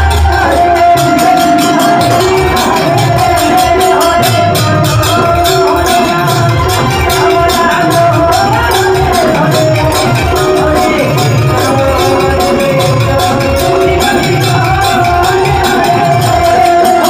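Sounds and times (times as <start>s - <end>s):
harmonium chords: 0.0s - 17.0s
jingling hand percussion: 0.0s - 17.0s.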